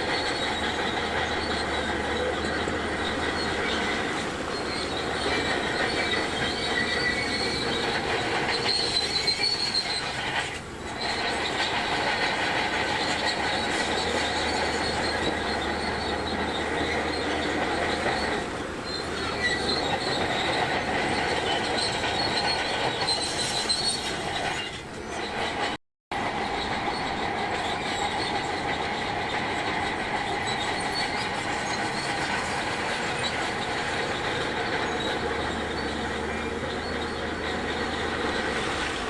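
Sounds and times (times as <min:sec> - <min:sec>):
steel tracks squealing and clanking: 0:00.0 - 0:39.0.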